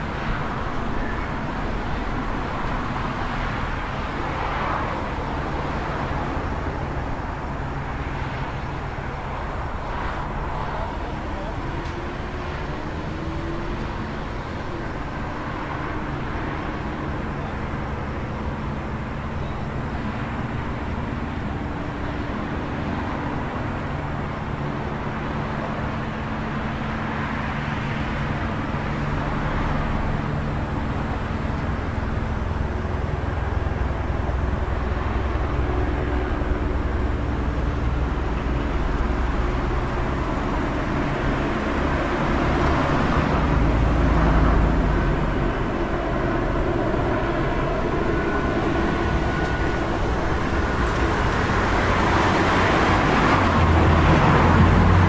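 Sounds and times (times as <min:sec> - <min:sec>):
passing cars: 0:00.0 - 0:55.0.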